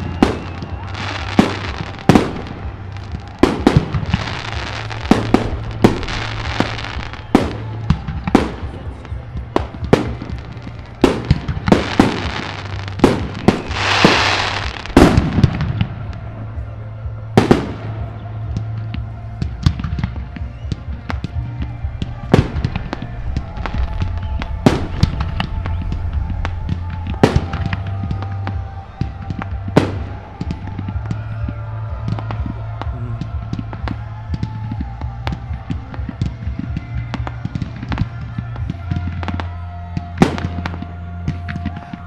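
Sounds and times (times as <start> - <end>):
fireworks bangs: 0.0 - 42.0
fireworks crackles: 0.0 - 42.0.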